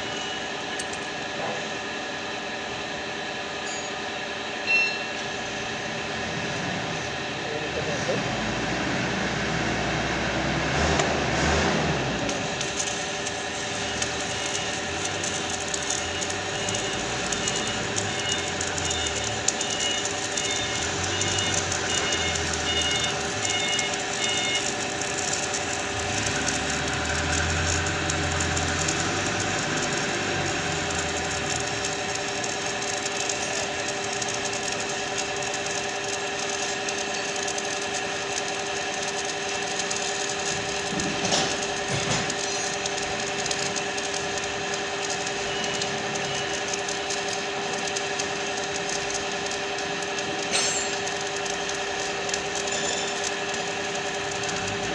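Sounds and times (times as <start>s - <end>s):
machine hum: 0.0s - 54.9s
welding arc crackling: 5.2s - 54.9s.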